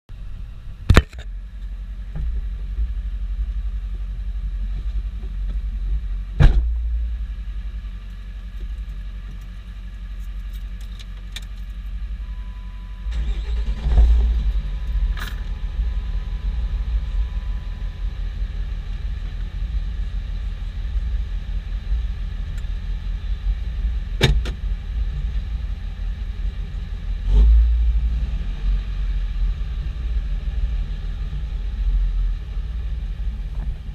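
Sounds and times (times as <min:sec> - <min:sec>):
diesel engine idling: 0:00.2 - 0:33.9.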